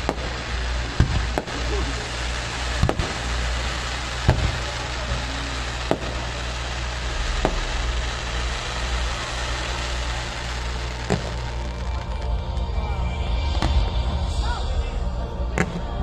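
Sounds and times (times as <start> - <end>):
fireworks bangs: 0.0 - 16.0
steady rumbling noise: 0.0 - 16.0.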